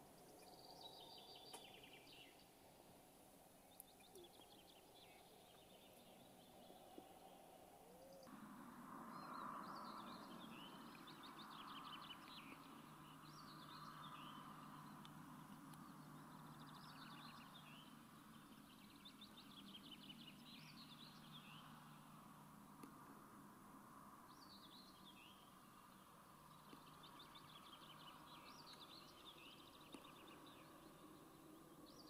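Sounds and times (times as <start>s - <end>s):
background hiss: 0.0s - 32.0s
faint songbirds singing: 0.0s - 32.0s.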